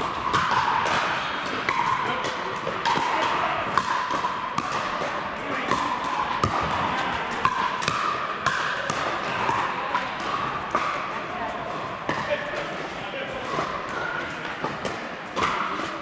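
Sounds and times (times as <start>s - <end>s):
echoing din of play: 0.0s - 16.0s.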